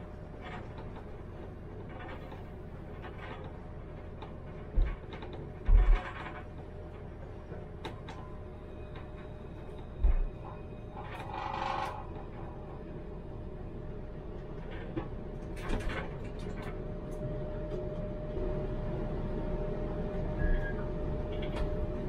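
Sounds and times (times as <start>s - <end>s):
tram electrical hum: 0.0s - 22.0s.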